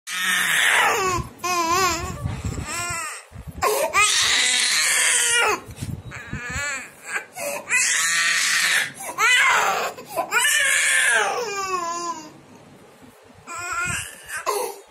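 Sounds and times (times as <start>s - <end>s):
toddler crying: 0.1s - 12.4s.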